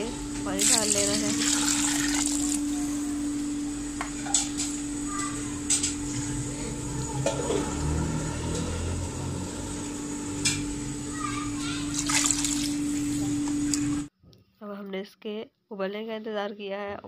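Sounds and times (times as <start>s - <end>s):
steady hum: 0.0s - 14.1s.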